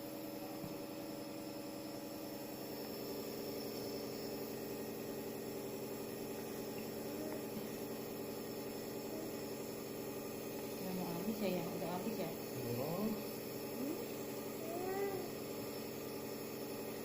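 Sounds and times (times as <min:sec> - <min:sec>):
nebulizer compressor humming: 0:00.0 - 0:17.0.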